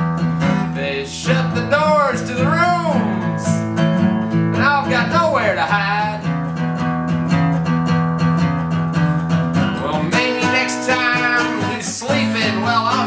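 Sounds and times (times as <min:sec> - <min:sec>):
acoustic guitar playing blues: 0:00.0 - 0:13.0.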